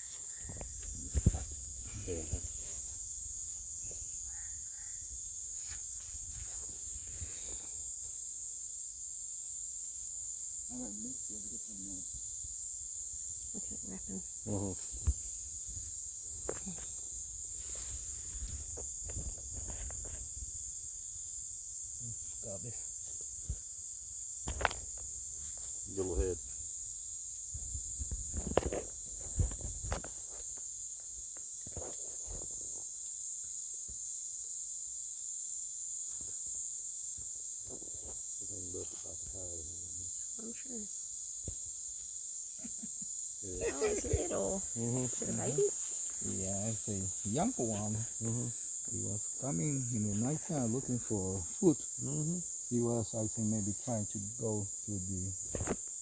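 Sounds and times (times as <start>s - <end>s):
crickets chirping: 0.0s - 56.0s
night insects chorus: 0.0s - 56.0s.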